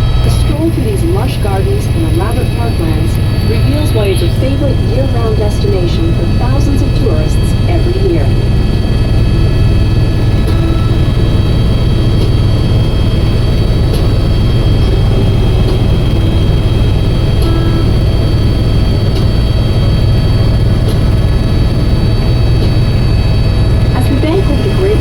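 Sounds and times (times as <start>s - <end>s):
helicopter high whine: 0.0s - 25.0s
helicopter low rumble: 0.0s - 25.0s.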